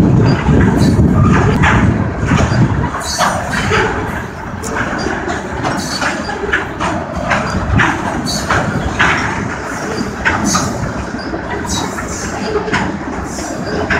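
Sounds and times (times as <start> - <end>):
freight train rumble: 0.0 - 13.9
wheels clicking on rails: 0.0 - 13.9.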